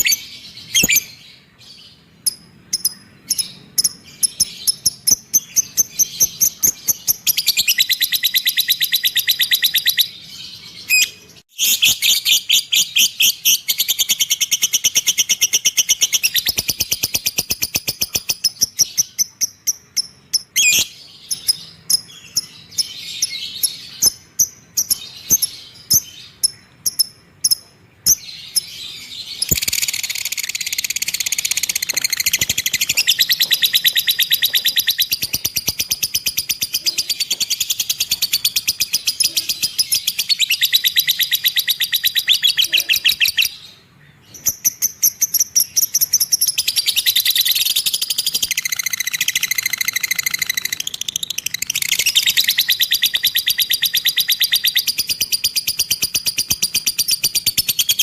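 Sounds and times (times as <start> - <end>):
cage bird trilling: 0.0 - 58.0.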